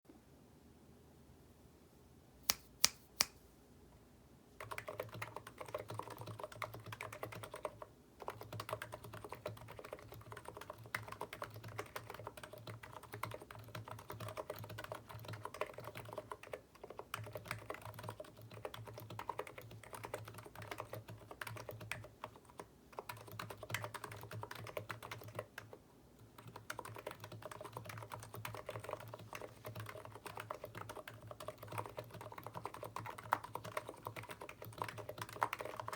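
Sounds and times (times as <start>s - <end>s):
keyboard typing clatter: 4.6s - 35.9s.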